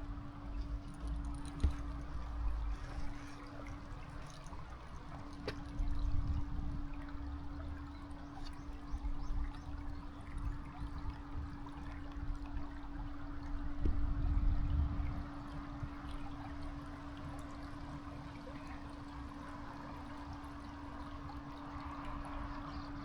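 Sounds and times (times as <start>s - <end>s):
low uneven rumble: 0.0s - 23.0s.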